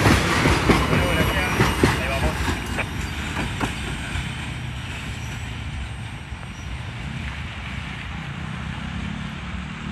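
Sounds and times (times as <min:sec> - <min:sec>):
freight train rumbling: 0:00.0 - 0:09.9.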